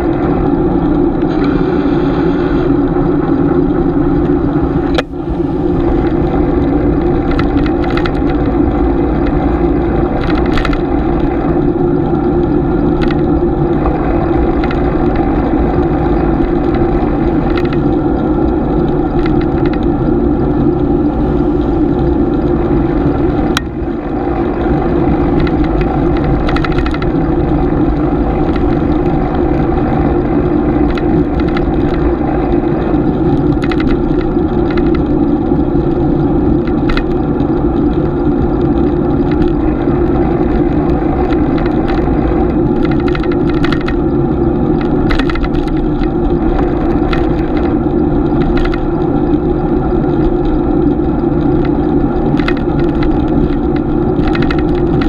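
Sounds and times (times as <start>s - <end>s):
bicycle road and drivetrain rumble: 0.0s - 55.0s.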